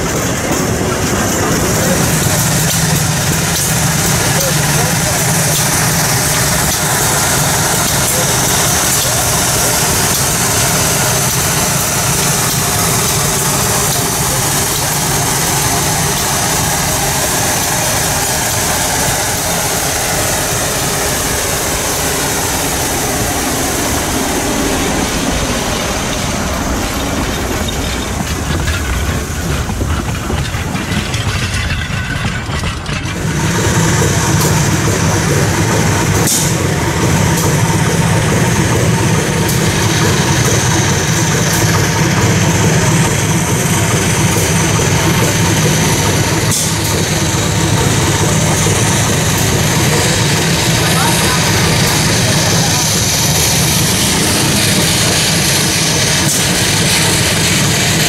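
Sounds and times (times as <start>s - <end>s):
rail noise: 0.0s - 58.0s
steam locomotive clatter: 0.0s - 58.0s.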